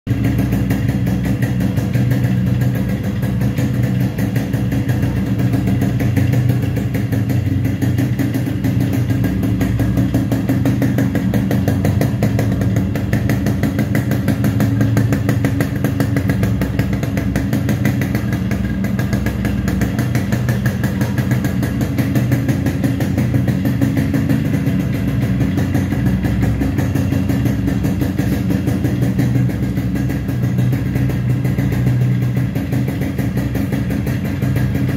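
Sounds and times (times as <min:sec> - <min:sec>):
two-stroke engine idling: 0:00.1 - 0:34.9.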